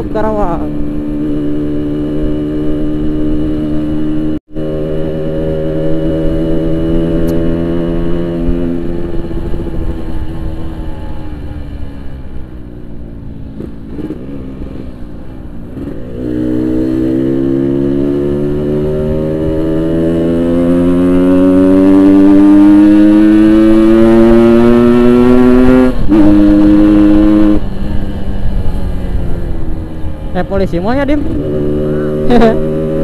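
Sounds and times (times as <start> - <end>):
two-stroke motorbike accelerating: 0.0 - 33.0.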